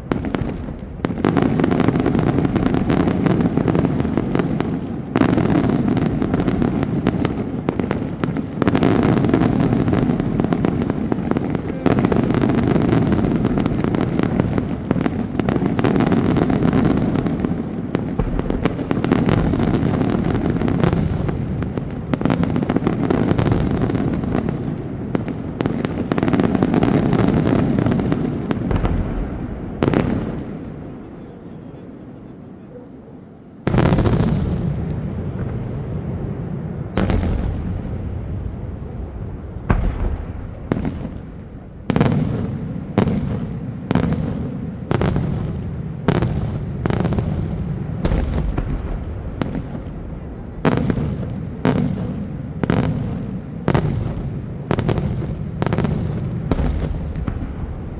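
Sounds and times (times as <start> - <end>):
fireworks bangs and crackling: 0.0 - 32.6, 33.3 - 57.9.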